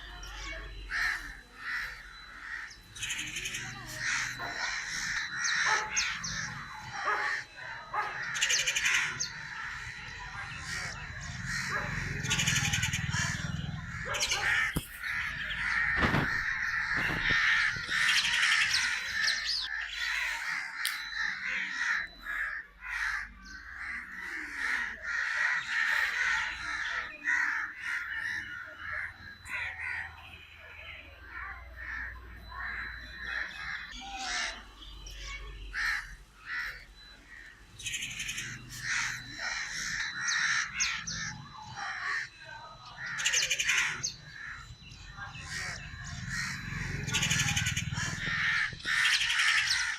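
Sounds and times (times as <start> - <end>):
crows cawing: 0.0 - 49.9.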